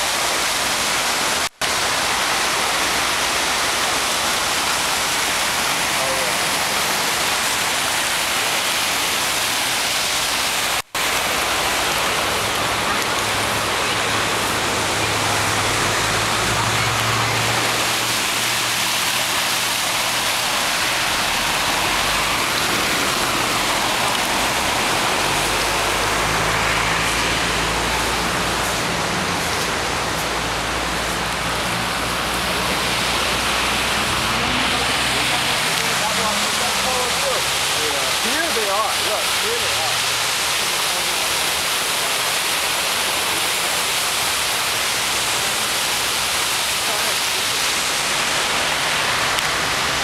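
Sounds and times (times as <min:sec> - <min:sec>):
cars driving through floodwater: 0:00.0 - 0:50.0
heavy rain pouring: 0:00.0 - 0:50.0.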